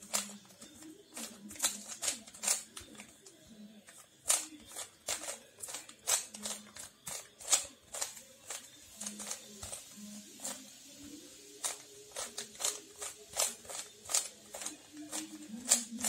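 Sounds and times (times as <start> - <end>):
puzzle cube clicking: 0.0 - 16.0.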